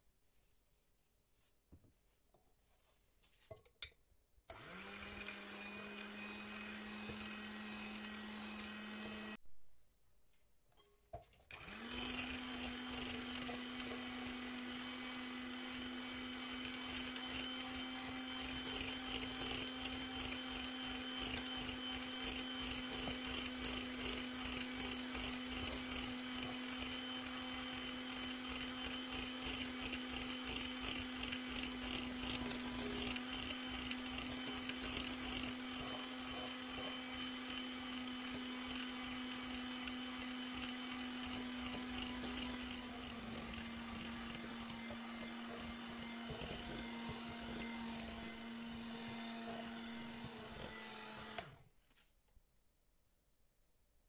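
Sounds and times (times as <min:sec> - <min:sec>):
electric hand mixer whisking: 0:04.5 - 0:09.4, 0:11.5 - 0:51.6.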